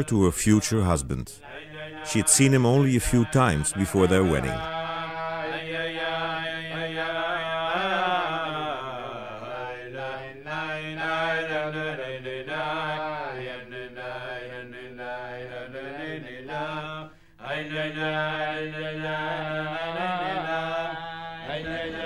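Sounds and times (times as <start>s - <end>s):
men singing chant-like melody: 1.4s - 22.0s.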